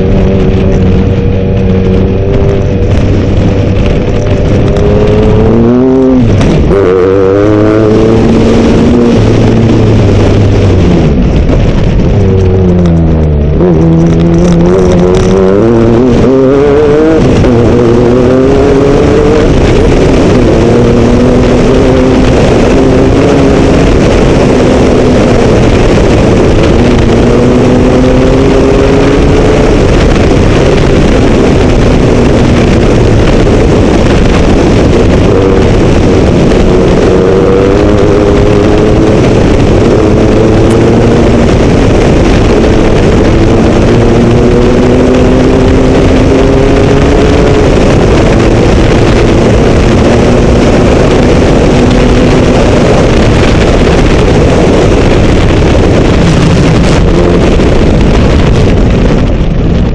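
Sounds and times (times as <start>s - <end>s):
car engine revving through gears: 0.0s - 59.2s
gravel road noise: 0.0s - 59.9s
wind noise: 0.0s - 59.9s.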